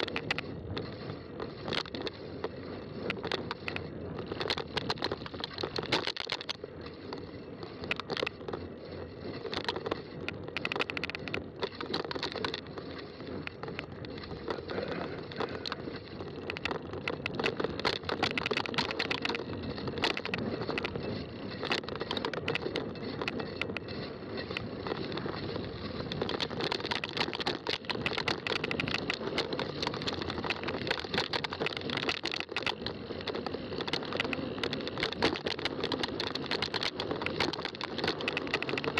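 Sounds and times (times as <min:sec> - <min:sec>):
bike clicks and rattles: 0:00.0 - 0:38.9
bike tyre noise on trail: 0:00.0 - 0:38.9.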